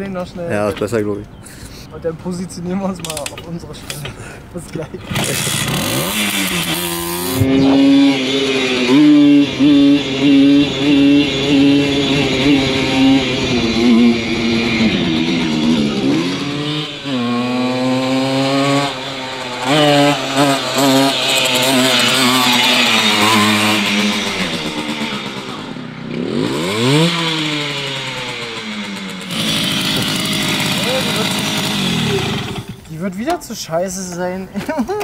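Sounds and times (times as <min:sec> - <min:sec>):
moped engine revving: 0:04.8 - 0:33.0.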